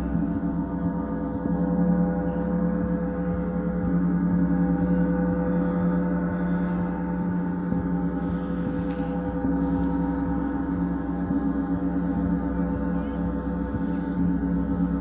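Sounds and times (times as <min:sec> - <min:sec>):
large gongs ringing: 0:00.0 - 0:15.0.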